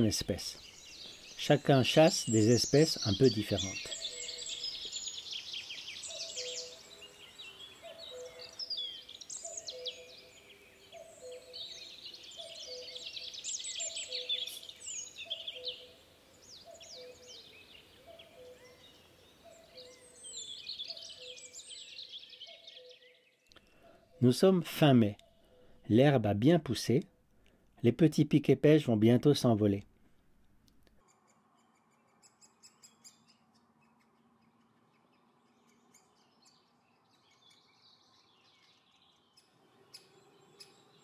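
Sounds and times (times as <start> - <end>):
birds twittering: 0.0 - 26.2, 31.0 - 41.0.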